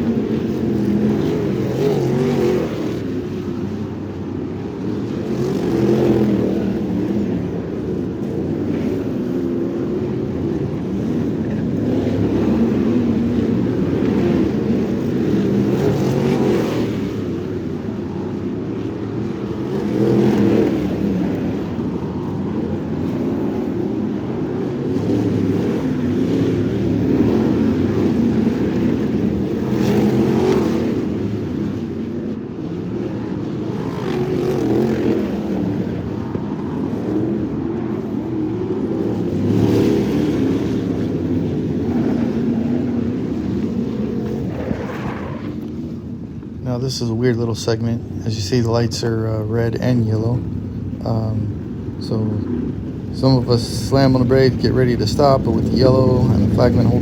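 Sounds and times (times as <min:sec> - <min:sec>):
race car engine revving: 0:00.0 - 0:31.8, 0:33.3 - 0:45.8, 0:51.4 - 0:57.0.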